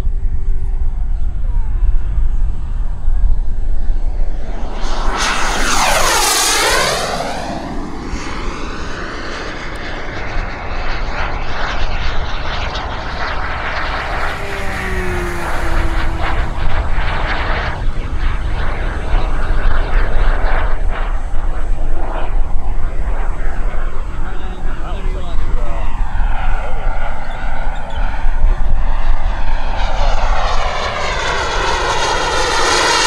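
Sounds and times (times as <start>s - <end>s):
model jet turbine whining past: 2.2s - 33.0s.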